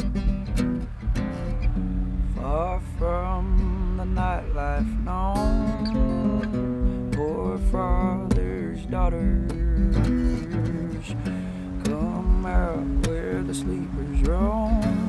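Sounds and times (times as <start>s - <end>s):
acoustic guitar song: 0.0s - 15.0s.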